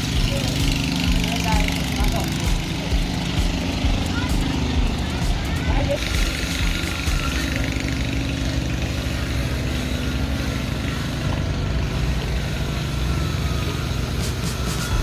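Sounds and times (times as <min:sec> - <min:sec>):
large engine running: 0:00.0 - 0:15.0.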